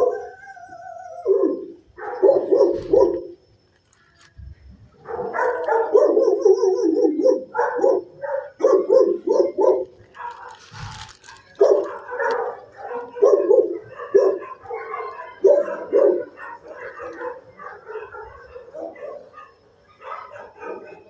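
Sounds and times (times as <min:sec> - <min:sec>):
dogs barking: 0:00.0 - 0:00.4, 0:01.2 - 0:03.4, 0:05.0 - 0:21.0.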